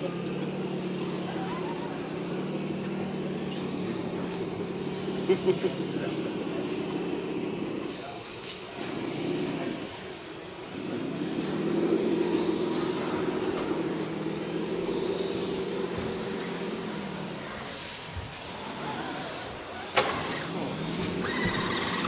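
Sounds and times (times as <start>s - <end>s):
toy crawler motors whining: 0.0s - 22.0s.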